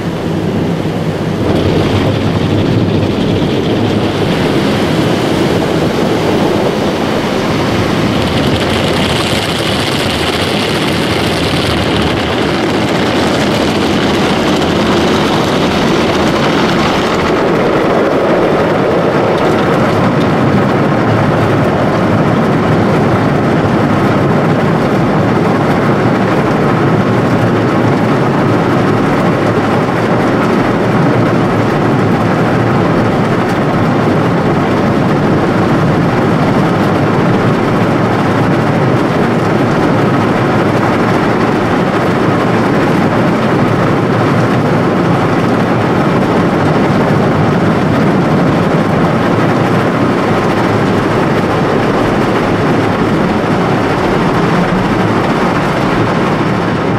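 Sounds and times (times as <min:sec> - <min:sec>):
car wash machinery rushing: 0:00.0 - 0:56.9.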